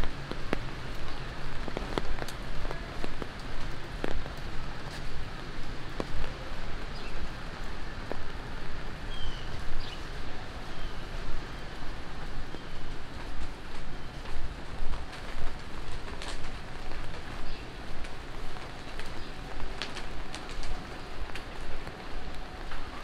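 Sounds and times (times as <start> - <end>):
low city rumble: 0.0 - 23.0
rain hissing on pavement: 0.0 - 23.0.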